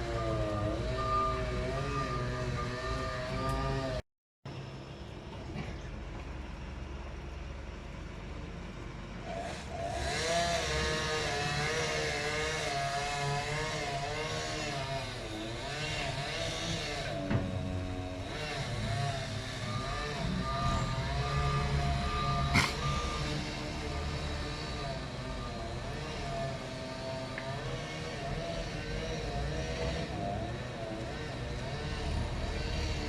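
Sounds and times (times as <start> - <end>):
heavy machinery engine revving: 0.0 - 4.0, 9.2 - 33.0.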